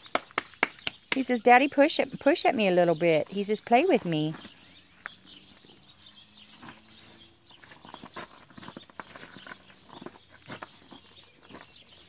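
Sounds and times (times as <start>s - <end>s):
hooves and boots on gravel: 0.9s - 12.0s.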